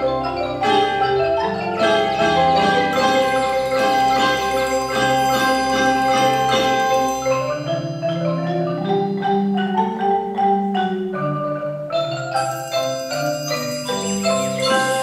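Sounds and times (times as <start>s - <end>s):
marimba ensemble playing: 0.0s - 15.0s.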